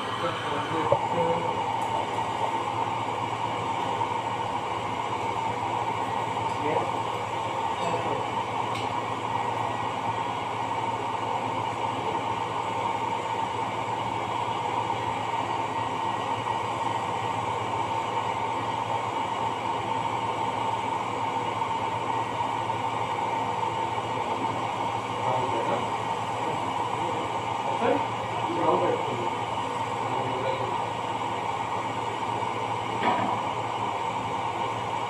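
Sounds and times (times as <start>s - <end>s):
machinery drone with whine: 0.0s - 35.0s.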